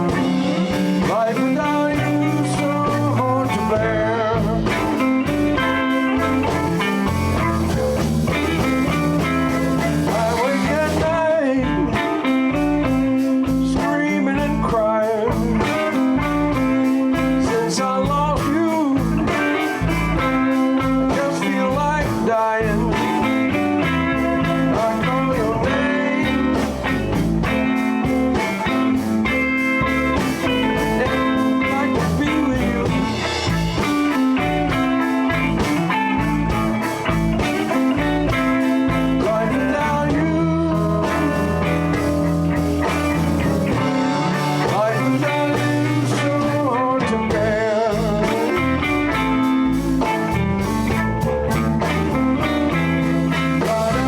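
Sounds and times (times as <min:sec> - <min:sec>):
bass: 0:00.0 - 0:54.0
drums: 0:00.0 - 0:54.0
electric guitar: 0:00.0 - 0:54.0.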